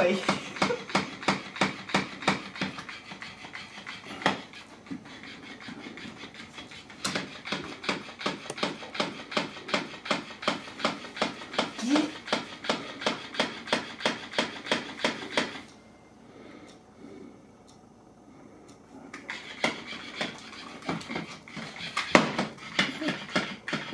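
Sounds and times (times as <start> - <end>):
toy slapping on hardwood floor: 0.0 - 15.6, 19.1 - 23.9.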